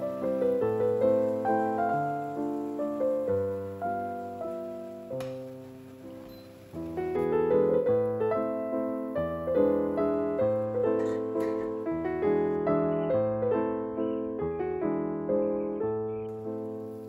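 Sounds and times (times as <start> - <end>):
gentle solo piano melody: 0.0 - 17.0.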